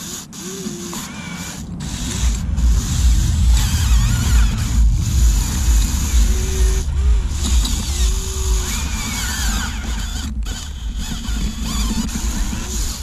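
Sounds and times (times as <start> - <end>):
toy excavator motors whining: 0.0 - 4.7, 5.3 - 13.0
steady low rumble: 1.2 - 13.0.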